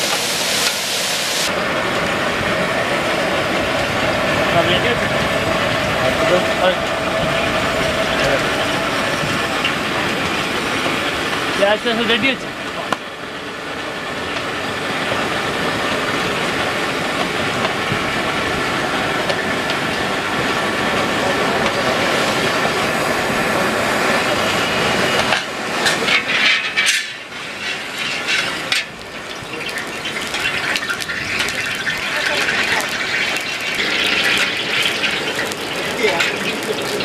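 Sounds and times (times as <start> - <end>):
fire roaring: 0.0 - 37.0.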